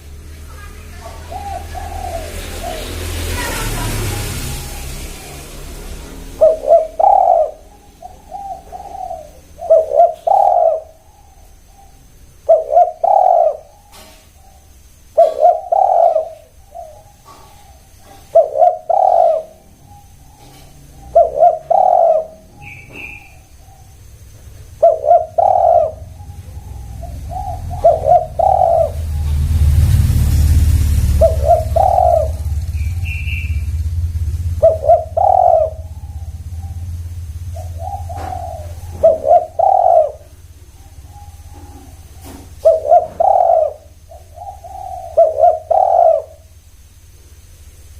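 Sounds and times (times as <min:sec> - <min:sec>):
high bird chirp: 0:00.0 - 0:46.6
dove cooing: 0:00.0 - 0:47.0.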